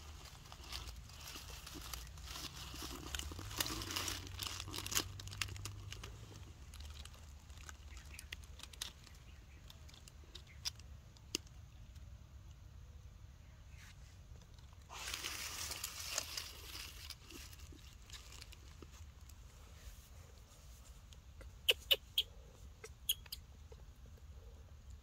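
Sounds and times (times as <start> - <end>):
dry crackling and rustling: 0.0 - 12.6, 13.7 - 21.4.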